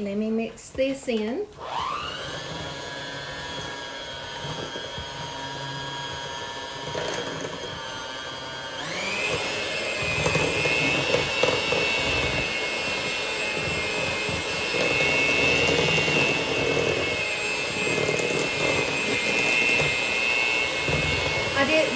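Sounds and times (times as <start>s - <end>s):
electric hand mixer whining: 0.8s - 21.9s.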